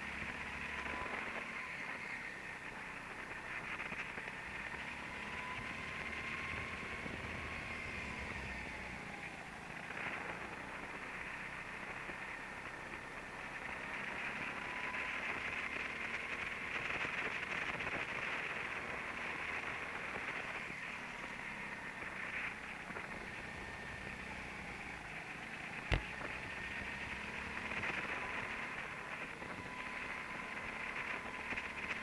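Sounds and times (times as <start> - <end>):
faint constant whine: 0.0 - 32.0
go-kart motor running: 0.0 - 32.0.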